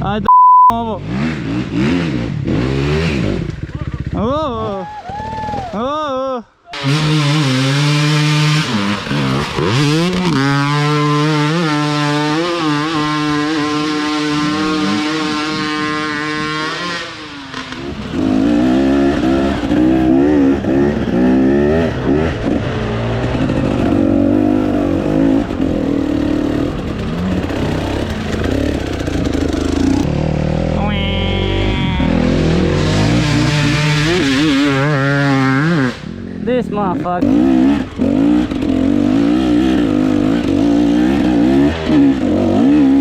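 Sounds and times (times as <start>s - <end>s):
dirt bike engine revving: 0.8s - 4.8s, 6.8s - 43.0s.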